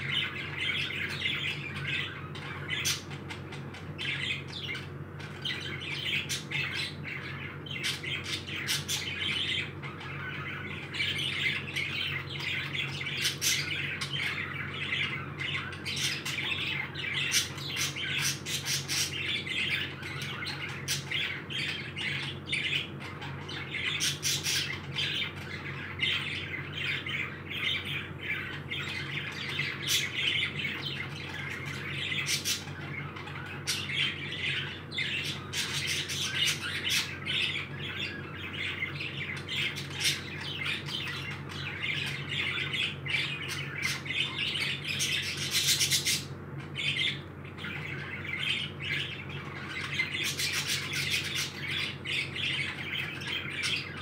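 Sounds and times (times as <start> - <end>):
parakeets chattering and squawking: 0.0 - 54.0.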